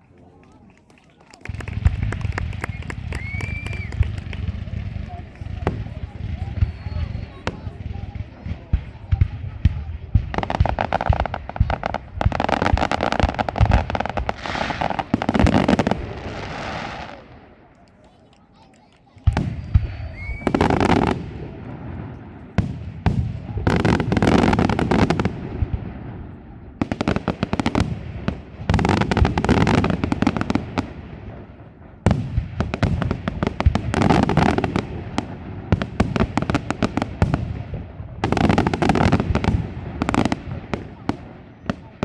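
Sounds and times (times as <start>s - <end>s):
fireworks bursts and crackling: 0.0s - 42.0s.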